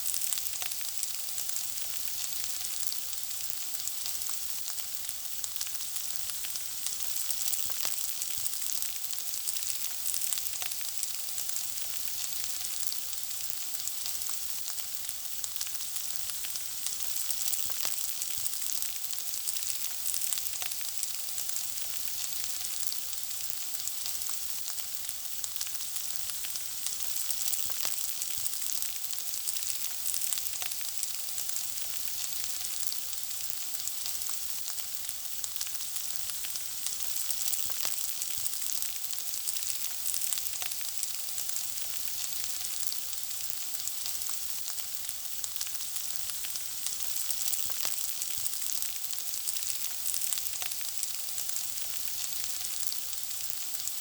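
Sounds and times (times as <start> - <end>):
food frying in hot oil: 0.0 - 54.0.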